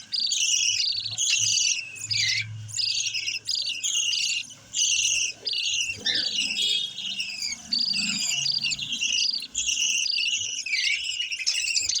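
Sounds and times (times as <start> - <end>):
lovebirds chattering: 0.0 - 12.0.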